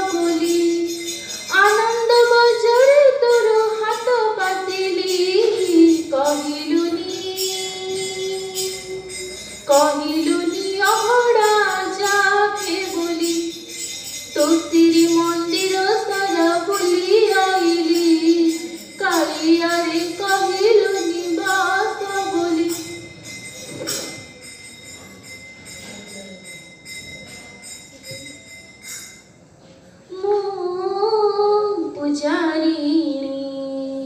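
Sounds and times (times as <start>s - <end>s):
percussion with jingling bells: 0.0s - 30.0s.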